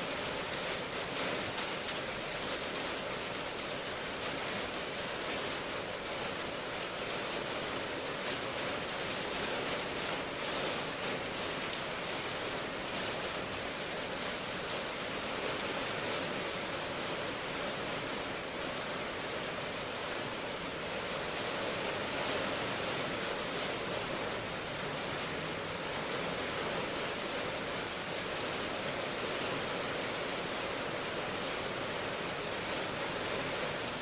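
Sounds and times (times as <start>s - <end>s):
rain hiss and patter: 0.0s - 34.0s.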